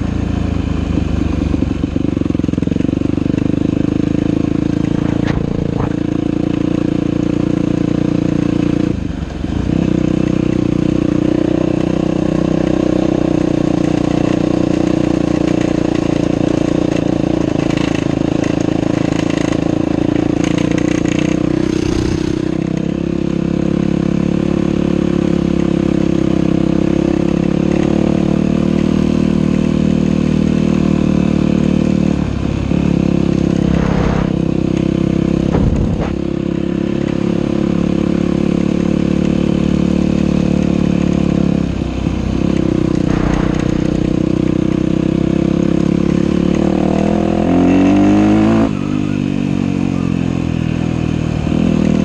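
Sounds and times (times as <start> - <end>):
dirt bike engine revving: 3.4 - 8.9, 9.7 - 24.9, 29.8 - 52.0.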